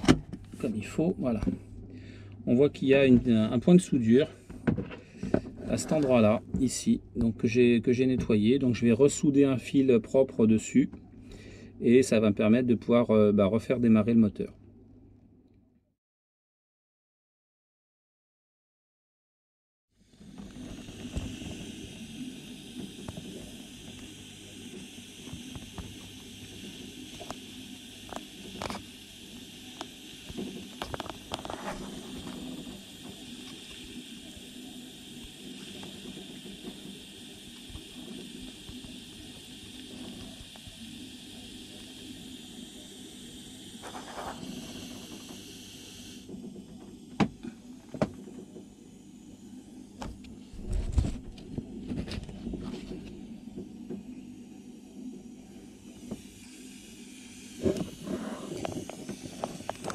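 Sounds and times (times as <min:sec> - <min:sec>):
low hum and hiss: 0:00.0 - 0:15.6, 0:20.0 - 0:59.9.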